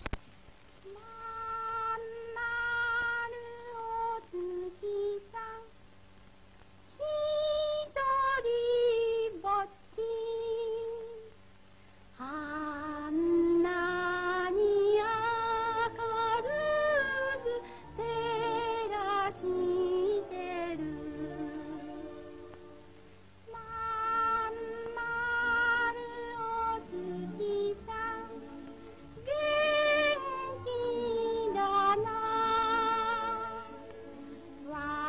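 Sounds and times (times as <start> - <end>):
high singing voice with vibrato: 0.9 - 5.8, 6.9 - 11.3, 12.2 - 22.2, 23.5 - 28.5, 29.2 - 33.8, 34.6 - 35.0.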